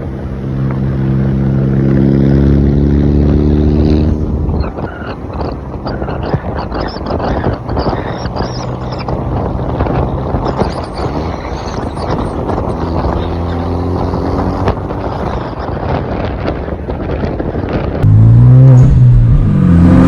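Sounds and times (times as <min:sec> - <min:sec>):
car engine drone: 0:00.0 - 0:20.0
wind on microphone: 0:00.0 - 0:20.0.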